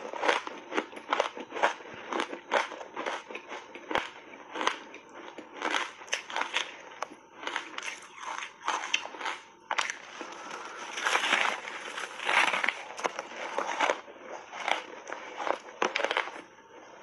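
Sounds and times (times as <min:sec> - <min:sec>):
chewing ice crunches: 0:00.0 - 0:17.0.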